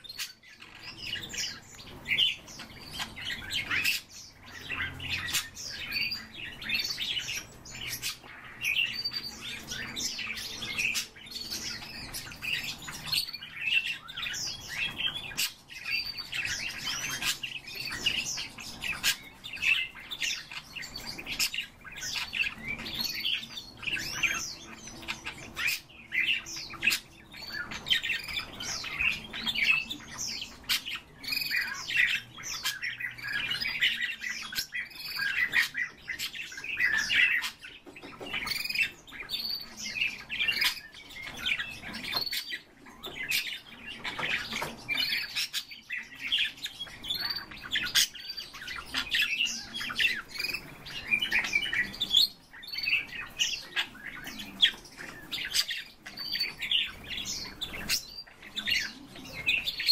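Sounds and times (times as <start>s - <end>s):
cage birds chirping and chattering: 0.0s - 59.9s.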